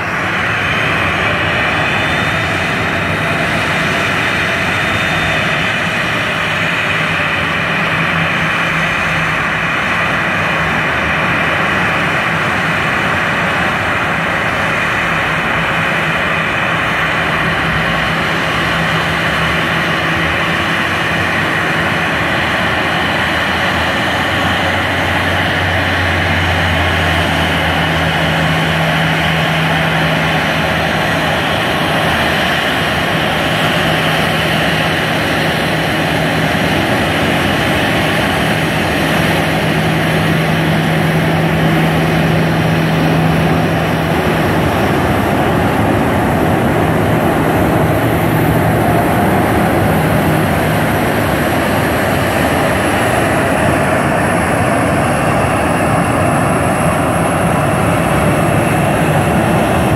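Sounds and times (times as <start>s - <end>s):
jet engines rumbling: 0.0s - 59.9s
thin high engine whine: 0.0s - 59.9s.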